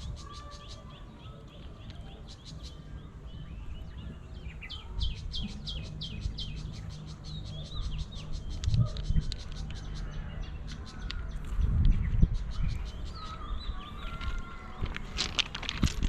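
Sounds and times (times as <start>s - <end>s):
steady low rumble: 2.3s - 16.0s.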